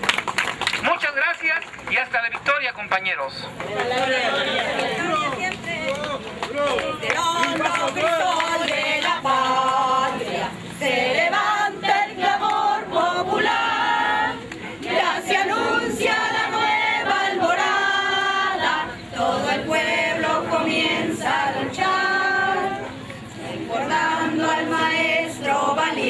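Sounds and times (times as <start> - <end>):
group of voices singing: 3.7 - 26.0.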